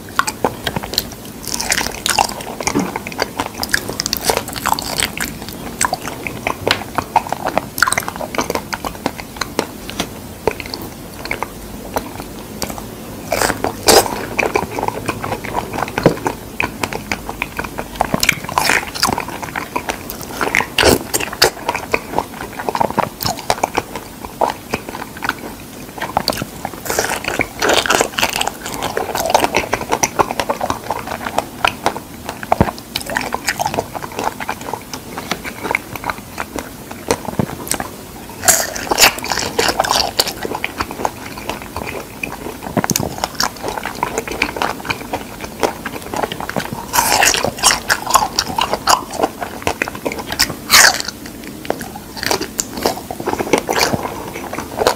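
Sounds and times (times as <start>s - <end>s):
biting and chewing fruit: 0.0s - 54.9s.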